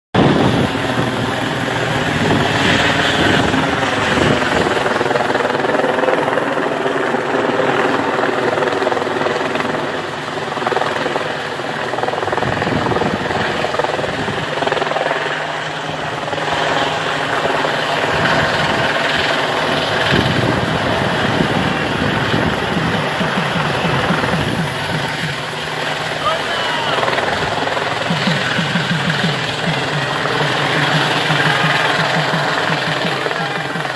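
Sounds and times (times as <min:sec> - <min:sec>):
helicopter engine drone: 0:00.1 - 0:33.9
helicopter rotor beating: 0:00.1 - 0:33.9.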